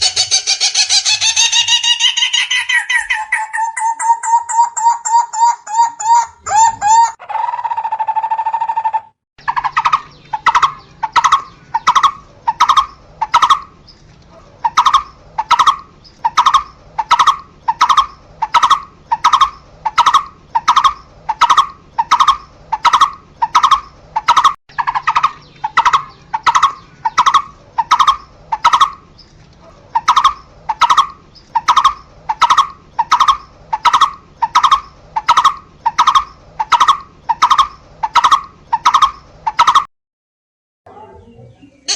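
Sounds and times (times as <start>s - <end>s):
barbet calling: 0.0s - 13.8s, 14.4s - 29.1s, 29.9s - 39.9s.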